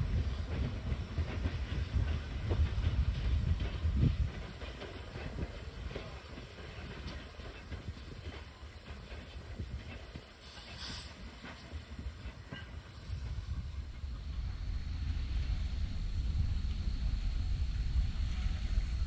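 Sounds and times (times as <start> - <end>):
steam train rumble: 0.0 - 19.0.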